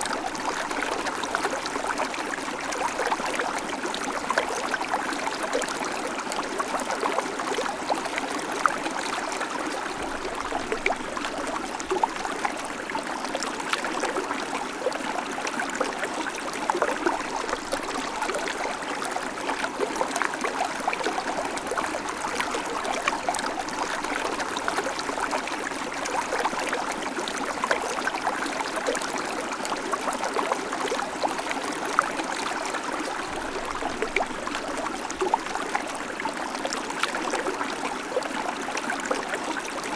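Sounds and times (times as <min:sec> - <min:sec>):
creek water running over stones: 0:00.0 - 0:39.9.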